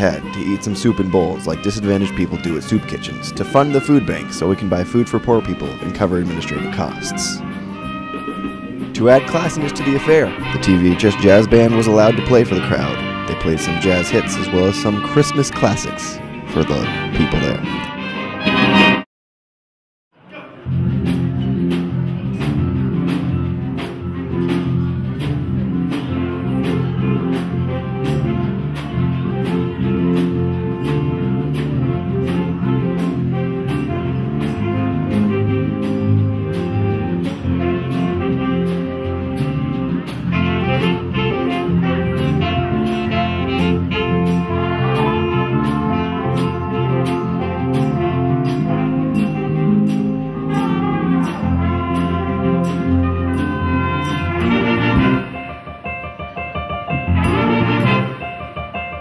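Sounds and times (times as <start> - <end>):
jazz band playing: 0.0 - 19.0, 20.7 - 59.0
saxophones and brass: 0.0 - 19.1, 22.6 - 55.6, 57.0 - 58.4
drums keeping a beat: 0.1 - 15.3, 20.9 - 55.6.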